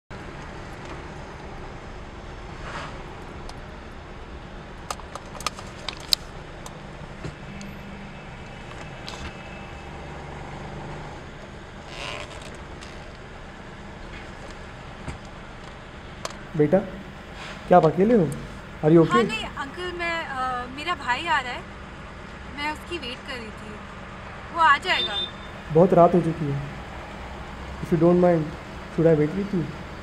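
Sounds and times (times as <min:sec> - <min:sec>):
car engine running: 0:00.1 - 0:30.0.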